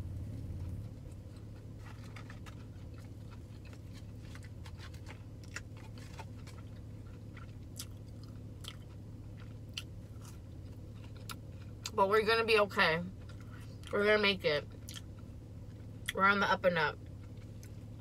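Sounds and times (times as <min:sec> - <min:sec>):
steady low hum: 0:00.0 - 0:18.0
person chewing: 0:00.2 - 0:12.0, 0:13.2 - 0:14.0, 0:14.7 - 0:16.2, 0:17.0 - 0:18.0.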